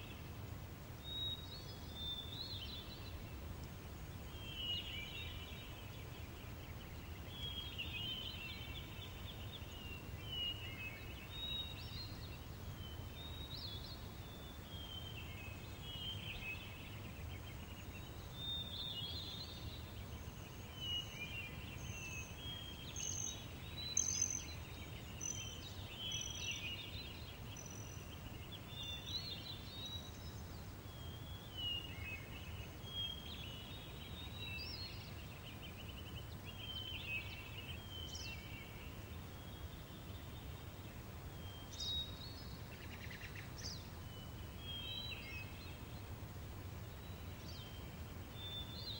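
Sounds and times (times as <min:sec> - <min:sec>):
low breeze: 0:00.0 - 0:48.9.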